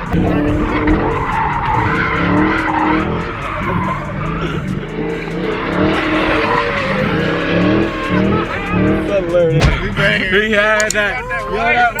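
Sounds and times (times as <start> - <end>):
car engine at high revs: 0.0 - 11.0
tyres screeching and skidding: 0.0 - 12.0.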